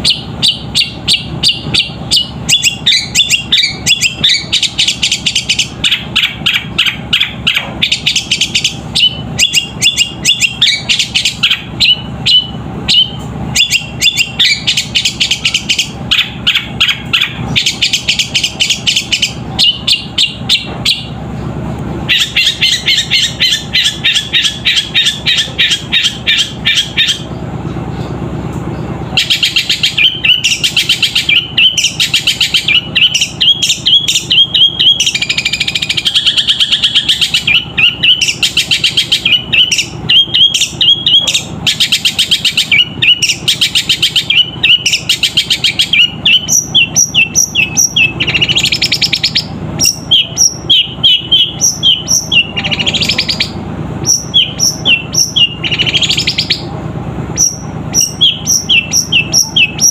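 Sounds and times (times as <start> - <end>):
bird singing sharp chirps: 0.0 - 21.5, 22.1 - 28.1, 28.7 - 56.7, 57.4 - 59.9
harsh rasping bird notes: 0.0 - 59.9.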